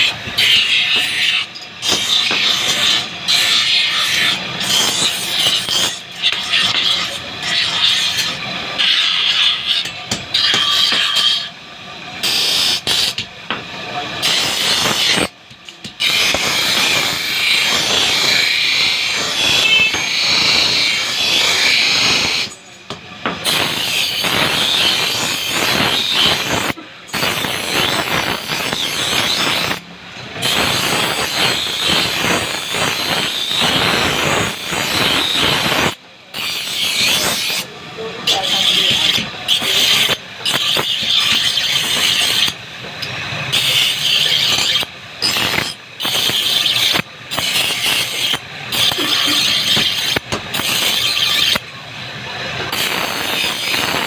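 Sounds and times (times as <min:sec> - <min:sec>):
steel grinding on belt grinder: 0:00.0 - 0:54.0.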